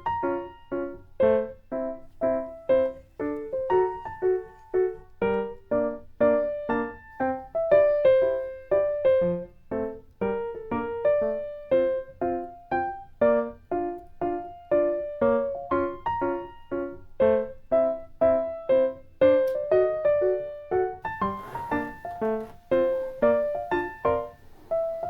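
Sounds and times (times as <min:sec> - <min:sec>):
bouncy keyboard melody: 0:00.0 - 0:21.0.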